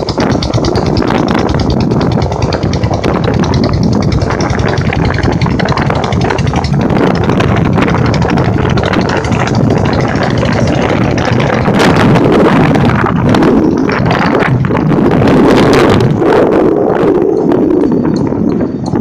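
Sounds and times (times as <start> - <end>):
motorcycle engine running: 0.0 - 19.0
wind on microphone: 0.0 - 19.0.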